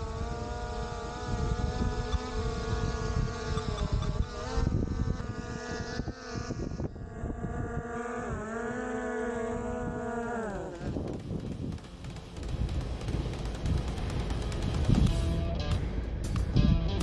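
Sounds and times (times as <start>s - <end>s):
drone motors winding down: 0.0s - 15.7s
drone propellers whining: 0.0s - 16.4s
wind rumbling on microphone: 0.0s - 16.8s.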